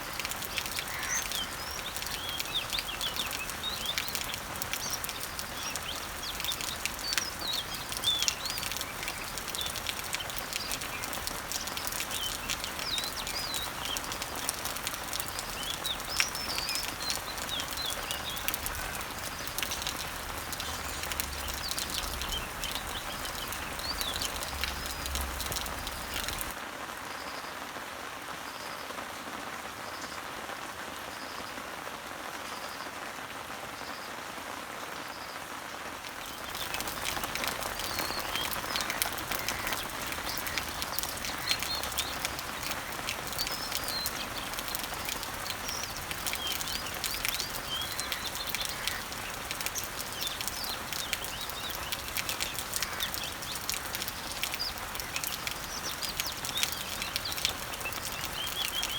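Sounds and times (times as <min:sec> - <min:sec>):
small birds chirping: 0:00.0 - 0:26.6, 0:36.0 - 0:58.9
water drips tapping: 0:00.0 - 0:26.6, 0:36.2 - 0:58.9
rain falling on leaves: 0:00.0 - 0:58.9.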